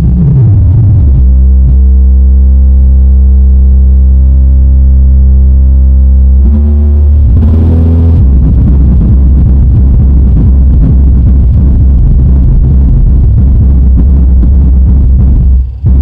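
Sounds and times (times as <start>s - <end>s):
loud bass-heavy electronic music: 0.0s - 16.0s.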